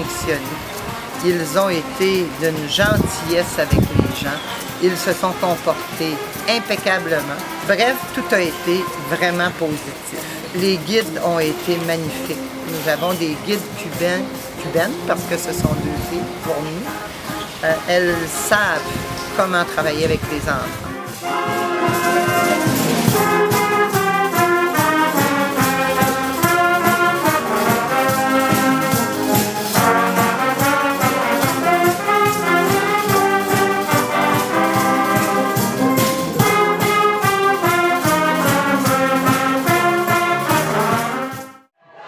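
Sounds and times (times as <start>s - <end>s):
concert band playing: 0.0s - 41.7s
trumpets playing tune: 0.0s - 41.7s.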